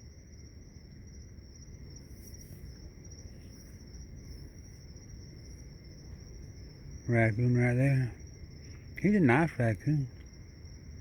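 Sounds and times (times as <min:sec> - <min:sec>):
crickets chirping: 0:00.0 - 0:11.0
low background rumble: 0:00.0 - 0:11.0.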